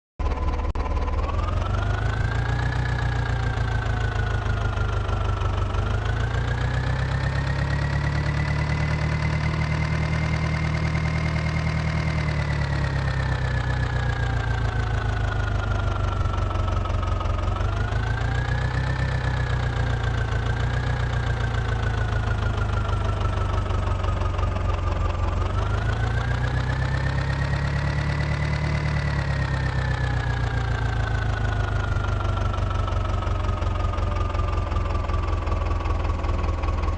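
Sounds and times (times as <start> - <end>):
engine whining: 0.2 - 36.9.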